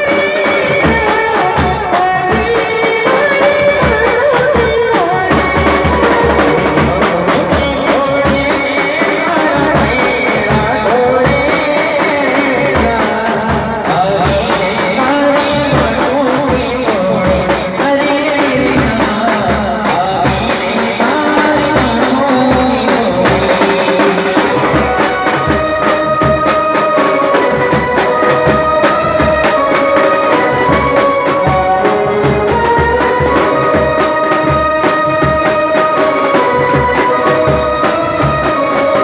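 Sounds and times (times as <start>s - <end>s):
steady drum beat: 0.0s - 39.0s
wind instrument ornamented melody: 0.0s - 39.0s.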